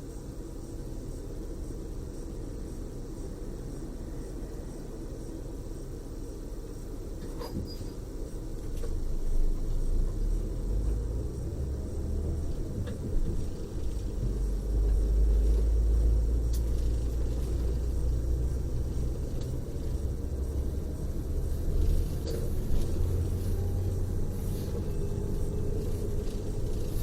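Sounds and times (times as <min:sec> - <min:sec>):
bus engine and road noise: 0:03.3 - 0:27.0.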